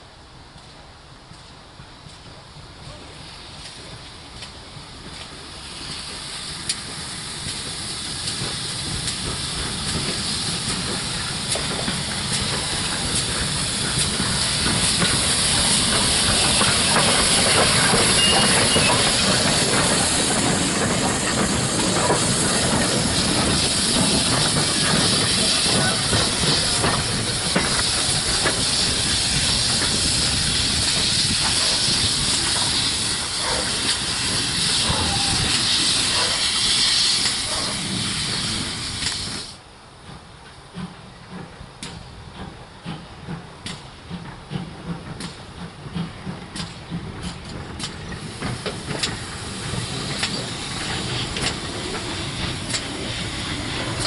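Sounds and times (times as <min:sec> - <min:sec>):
steam locomotive passing: 0:00.0 - 0:54.0
steam hissing: 0:02.8 - 0:54.0.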